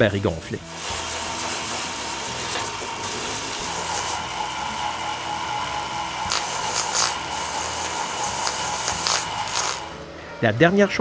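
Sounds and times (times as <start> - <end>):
power tool sanding wood: 0.6 - 10.1.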